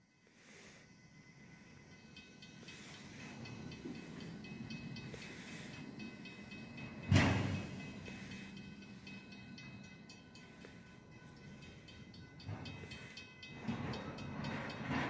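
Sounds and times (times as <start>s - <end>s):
freight train rumbling and clicking: 1.3s - 15.0s
loud train clank: 1.8s - 15.0s.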